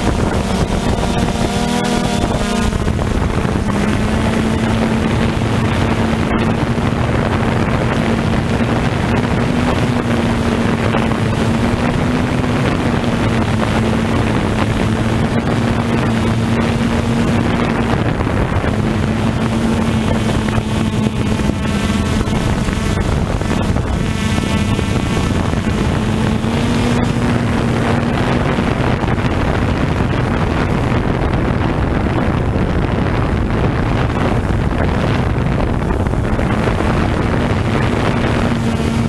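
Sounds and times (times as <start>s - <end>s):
drone propellers buzzing: 0.0s - 39.0s
wind on microphone: 0.0s - 39.0s.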